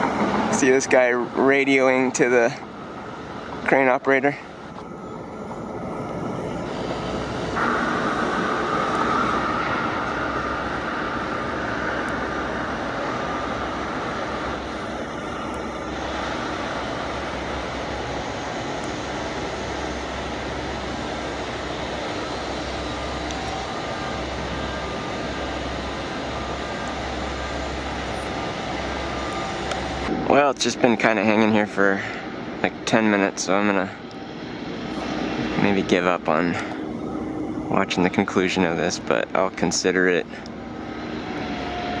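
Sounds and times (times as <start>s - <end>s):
aircraft passing overhead: 0.0s - 42.0s
outdoor city noise: 0.0s - 42.0s.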